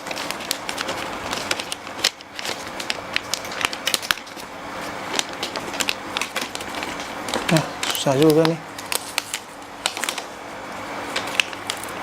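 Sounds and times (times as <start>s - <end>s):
packaging crackling: 0.0s - 10.4s, 11.0s - 12.0s.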